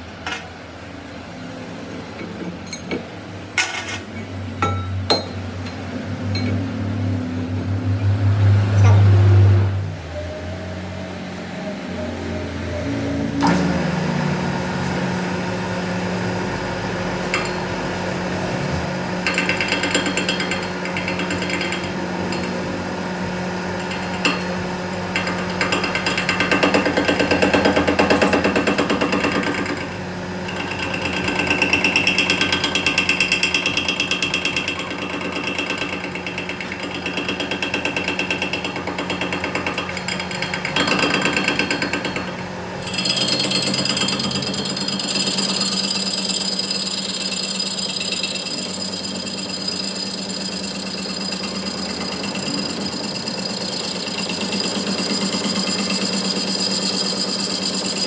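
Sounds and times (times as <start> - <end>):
steady machine hum: 0.0 - 58.0
power tool hammering metal: 2.0 - 9.8, 13.3 - 58.0.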